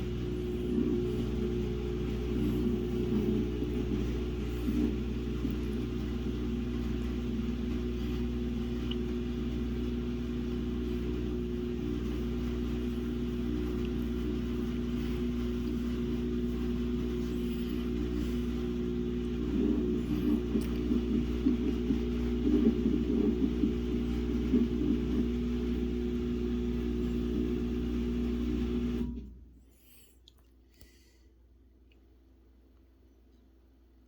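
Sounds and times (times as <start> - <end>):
washing machine motor hum: 0.0 - 30.1.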